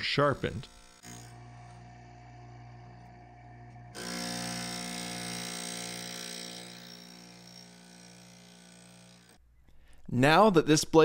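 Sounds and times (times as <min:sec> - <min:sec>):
grinding wheel on saw tooth: 0:00.0 - 0:09.4
sharpener motor humming: 0:00.0 - 0:09.4.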